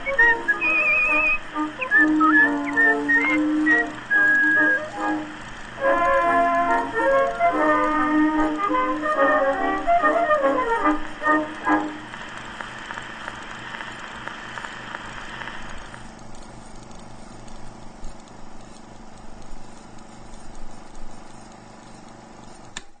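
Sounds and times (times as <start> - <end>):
steady hiss: 0.0 - 22.7
film projector clatter: 0.0 - 23.0.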